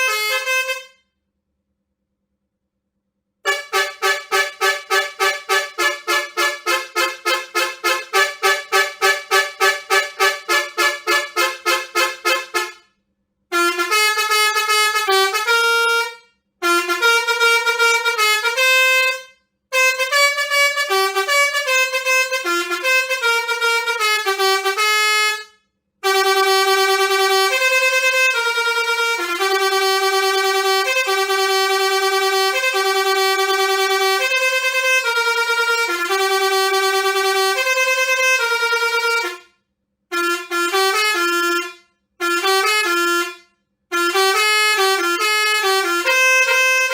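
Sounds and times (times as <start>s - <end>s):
musical air horn playing tunes: 0.0s - 1.0s, 3.5s - 12.9s, 13.5s - 46.9s.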